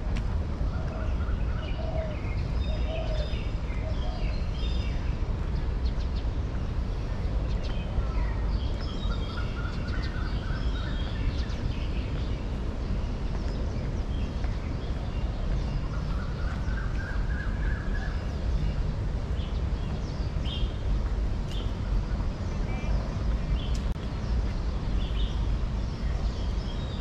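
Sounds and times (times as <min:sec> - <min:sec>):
birds chirping and trilling: 0:00.6 - 0:27.0.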